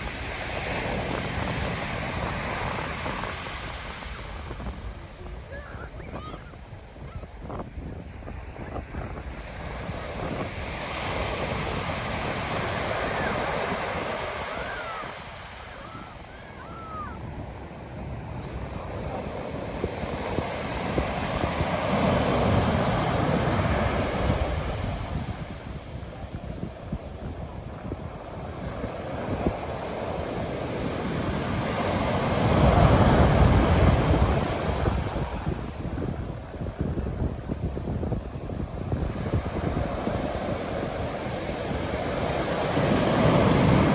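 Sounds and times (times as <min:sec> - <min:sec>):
ocean wave breaking: 0:00.0 - 0:43.9
wind rumbling on microphone: 0:00.0 - 0:43.9.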